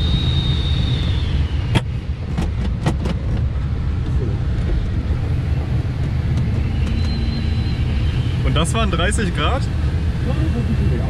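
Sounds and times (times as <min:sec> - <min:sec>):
airflow rushing around glider: 0:00.0 - 0:11.0.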